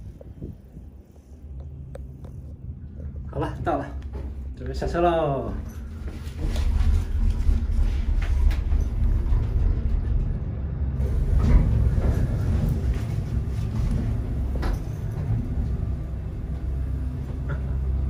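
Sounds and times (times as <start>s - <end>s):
chairlift machinery rumbling: 0.0s - 18.0s.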